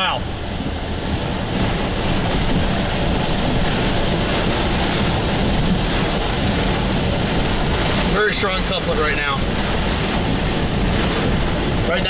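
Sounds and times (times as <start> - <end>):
heavy rain on a car: 0.0 - 12.0
wind buffeting a car: 0.0 - 12.0.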